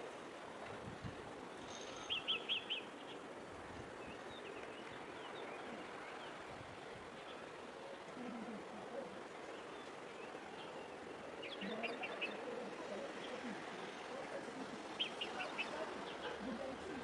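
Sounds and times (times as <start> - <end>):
outdoor background: 0.0 - 17.0
birds chirping: 1.6 - 17.0.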